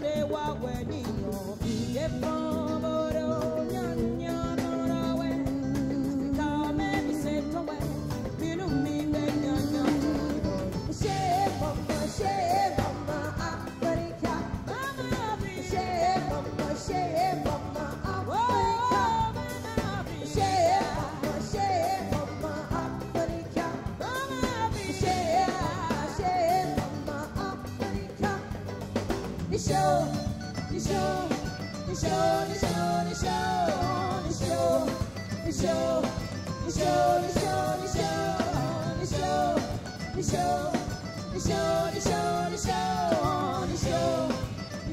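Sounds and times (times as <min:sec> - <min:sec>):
drum kit: 0:00.0 - 0:44.9
electric guitars: 0:00.0 - 0:44.9
woman singing: 0:00.0 - 0:44.9.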